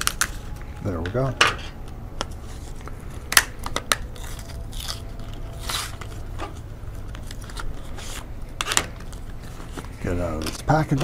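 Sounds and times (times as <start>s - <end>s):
packaging crackling and snapping: 0.0s - 0.9s, 1.8s - 11.0s
packaging crinkling: 0.0s - 1.0s, 1.8s - 11.0s.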